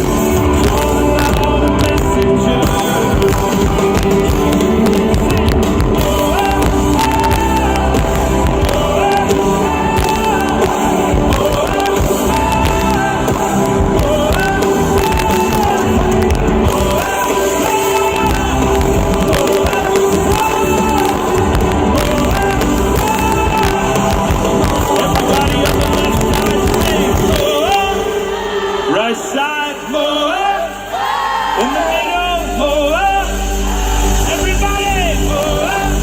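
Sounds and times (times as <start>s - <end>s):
drums: 0.0s - 36.0s
live pop-rock band playing: 0.0s - 36.0s
person singing: 0.0s - 36.0s.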